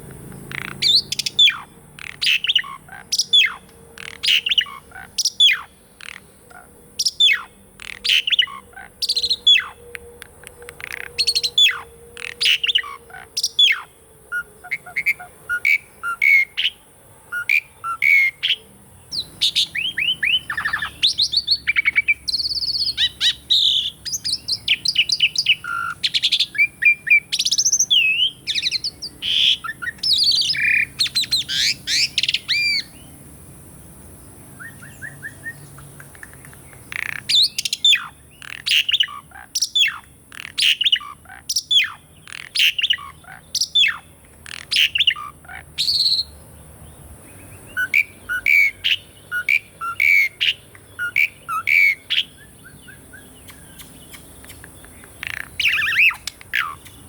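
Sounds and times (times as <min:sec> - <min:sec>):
starling singing: 0:00.0 - 0:33.2, 0:34.6 - 0:46.4, 0:47.3 - 0:57.0.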